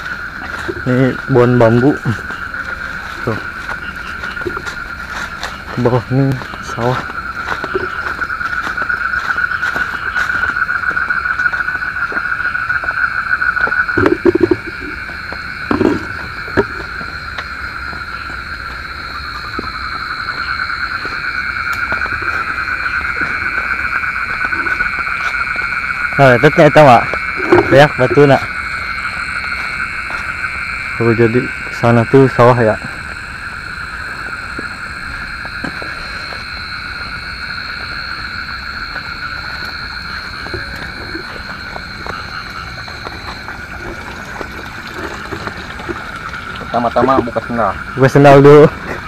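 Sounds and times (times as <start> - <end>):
frogs calling: 0.0 - 49.0
insects calling: 0.0 - 49.0.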